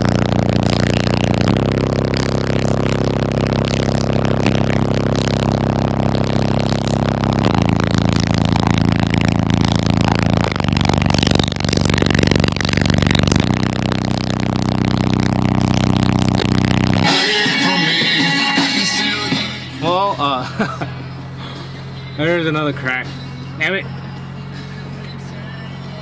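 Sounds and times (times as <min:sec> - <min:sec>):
loud subwoofer bass notes: 0:00.0 - 0:26.0.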